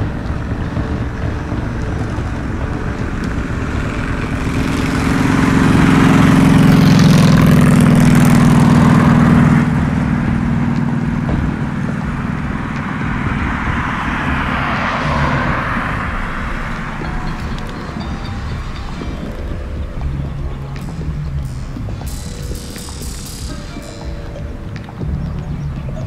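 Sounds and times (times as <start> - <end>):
vehicle passing with tyre noise: 0.0 - 26.0.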